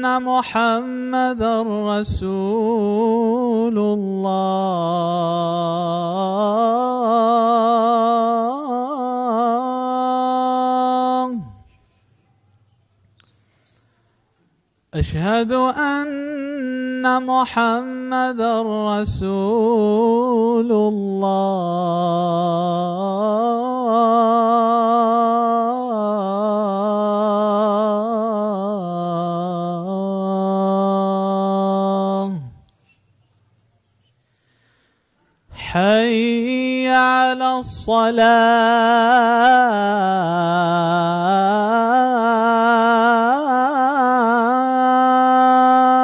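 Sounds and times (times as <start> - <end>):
man chanting a call to prayer: 0.0 - 11.8, 15.0 - 32.7, 35.5 - 46.0.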